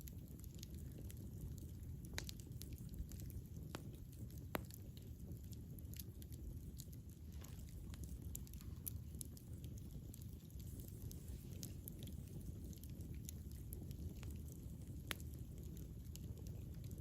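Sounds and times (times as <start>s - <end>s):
campfire burning: 0.0s - 17.0s.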